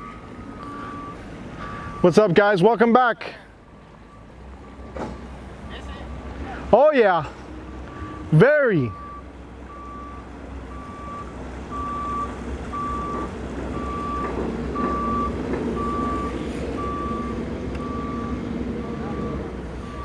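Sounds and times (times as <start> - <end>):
truck engine running: 0.0 - 2.6, 3.4 - 20.0
truck backup alarm beeping: 0.0 - 6.0, 6.8 - 20.0.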